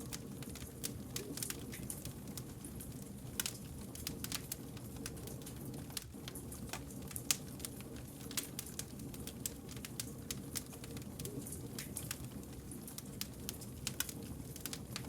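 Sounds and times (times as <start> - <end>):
burning logs snapping and popping: 0.0 - 15.0
low rumble of flames: 0.0 - 15.0
wood fire crackling: 0.0 - 15.0.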